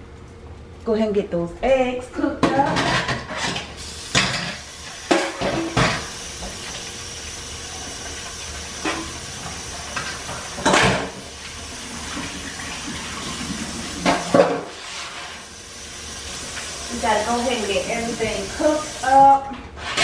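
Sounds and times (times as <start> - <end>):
eggs sizzling in frying pan: 0.0 - 20.0.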